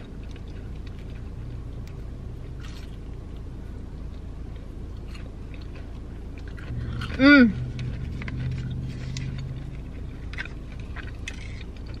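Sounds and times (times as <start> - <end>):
faint chewing: 0.0 - 12.0
low hum inside a car: 0.0 - 12.0.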